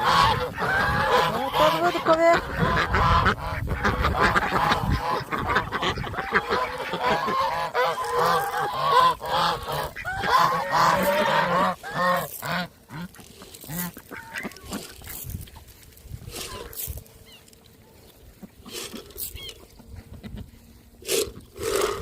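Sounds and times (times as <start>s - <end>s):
geese honking: 0.0s - 22.0s.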